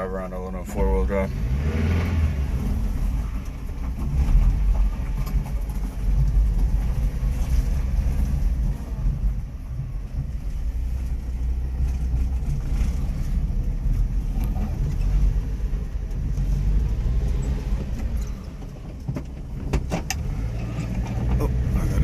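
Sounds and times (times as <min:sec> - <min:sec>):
small truck engine rumbling: 0:00.0 - 0:22.0.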